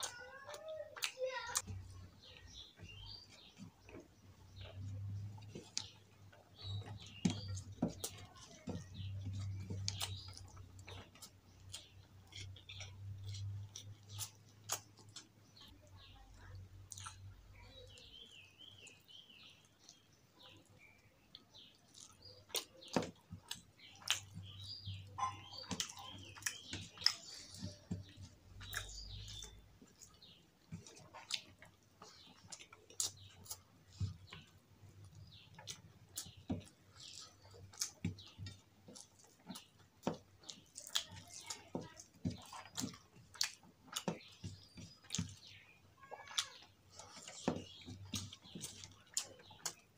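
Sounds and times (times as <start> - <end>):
wet chewing and lip smacks: 2.5 - 15.7, 16.8 - 17.3, 20.7 - 49.9.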